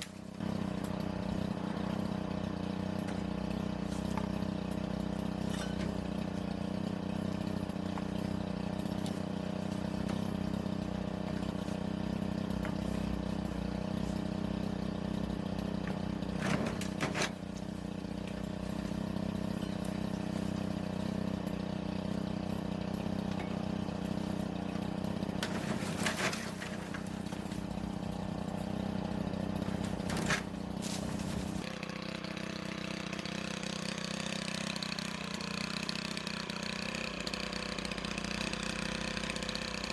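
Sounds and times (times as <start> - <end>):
chainsaw engine idling: 0.0 - 39.9.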